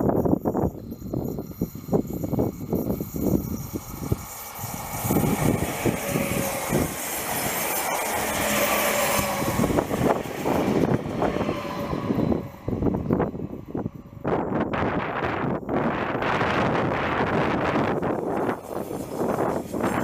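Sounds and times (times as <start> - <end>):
electric train passing at speed: 0.0 - 20.0.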